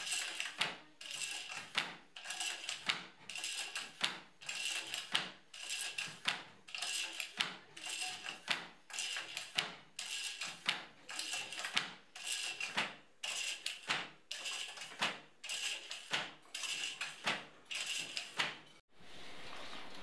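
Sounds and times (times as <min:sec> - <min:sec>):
loom shuttle swishing: 0:00.0 - 0:20.0.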